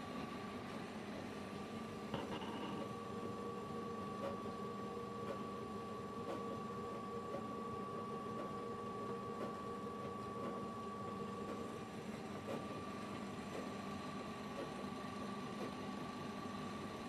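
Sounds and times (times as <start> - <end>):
high machine whine: 0.0 - 17.0
tablet press machine hum: 0.0 - 17.0.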